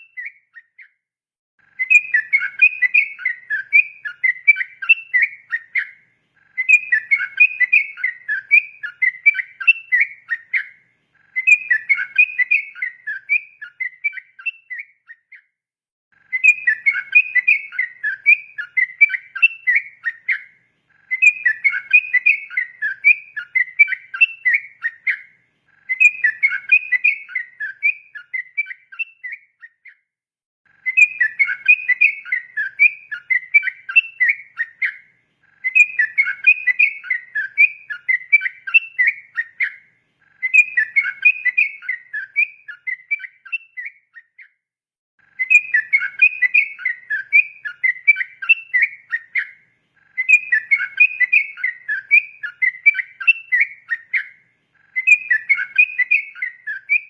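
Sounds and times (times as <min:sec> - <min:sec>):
bird chattering song: 0:00.0 - 0:01.0, 0:01.6 - 0:15.5, 0:16.2 - 0:30.0, 0:30.7 - 0:44.6, 0:45.2 - 0:57.0.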